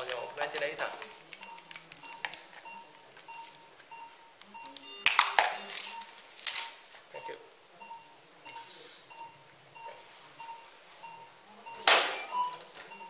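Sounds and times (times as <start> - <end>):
patient monitor beeping: 0.0 - 13.0.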